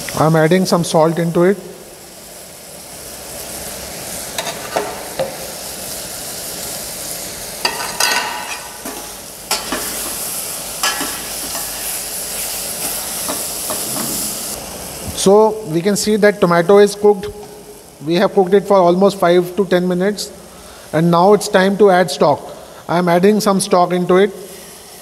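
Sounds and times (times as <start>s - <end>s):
tomatoes sizzling: 0.0s - 25.0s.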